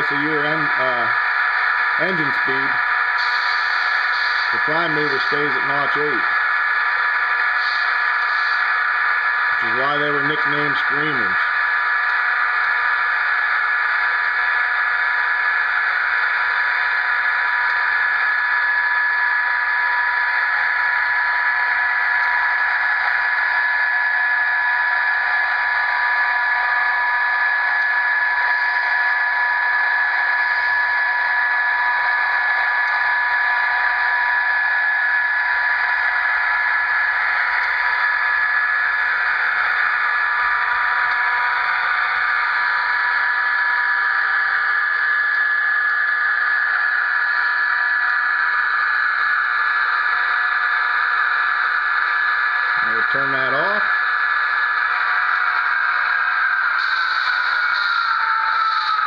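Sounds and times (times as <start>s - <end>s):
model locomotive engine scream: 0.0s - 59.0s
whining tones: 0.0s - 59.0s.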